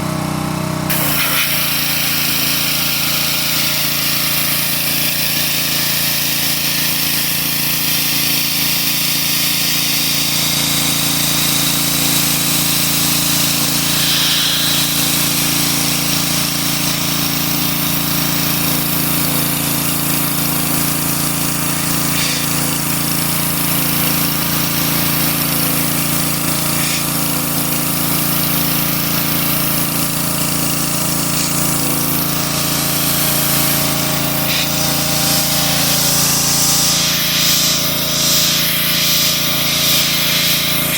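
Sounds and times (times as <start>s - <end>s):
motor tool humming and hissing: 0.7s - 40.9s.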